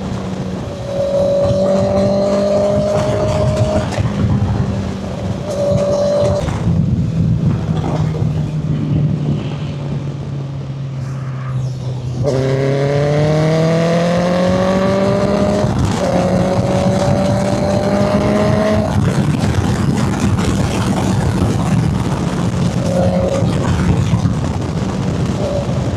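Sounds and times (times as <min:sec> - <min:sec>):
motorcycle engine revving while riding: 0:00.0 - 0:10.0, 0:12.2 - 0:25.9.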